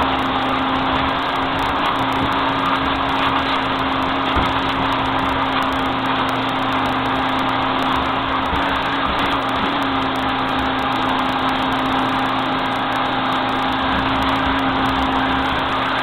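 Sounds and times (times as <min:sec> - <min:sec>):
motor running with hum: 0:00.0 - 0:16.0.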